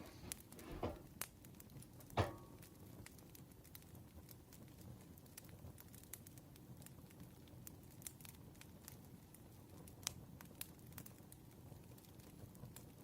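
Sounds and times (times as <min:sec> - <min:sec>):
campfire crackling: 0:00.0 - 0:13.0
rustle of burning wood: 0:00.0 - 0:13.0.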